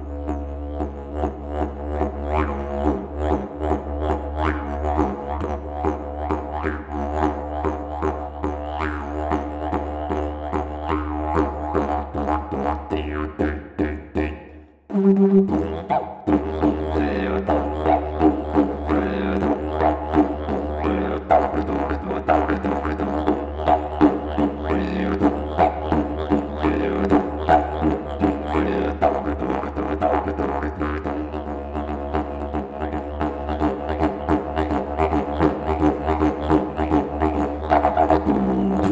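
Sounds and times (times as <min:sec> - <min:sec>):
didgeridoo drone: 0:00.0 - 0:14.3, 0:14.9 - 0:38.9.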